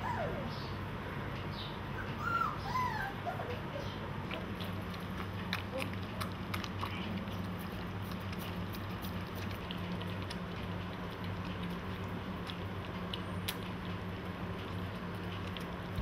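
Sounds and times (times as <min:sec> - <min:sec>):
steady low hum: 0:00.0 - 0:16.0
puppies chewing and lapping: 0:01.2 - 0:16.0.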